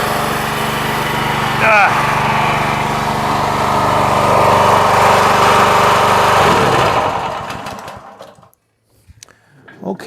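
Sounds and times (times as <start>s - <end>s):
backhoe engine running then shutting off: 0.0s - 8.5s.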